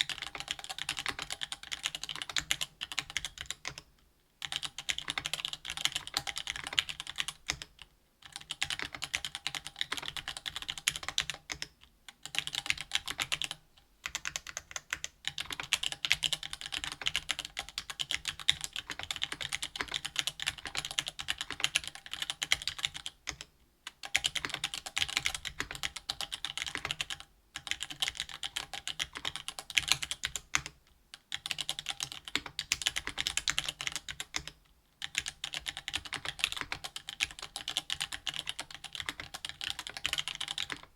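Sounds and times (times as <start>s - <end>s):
fast mechanical keyboard typing: 0.0s - 3.8s, 4.4s - 40.9s.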